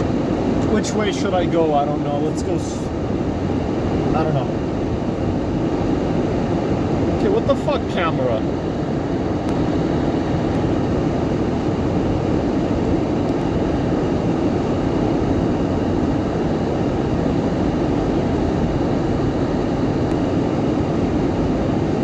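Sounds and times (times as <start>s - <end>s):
car cabin engine and road rumble: 0.0s - 22.0s.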